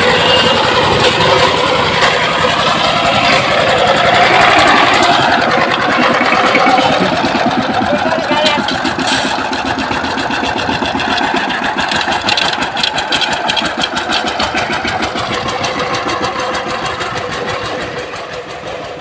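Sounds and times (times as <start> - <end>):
power tiller engine chugging: 0.0 - 19.0.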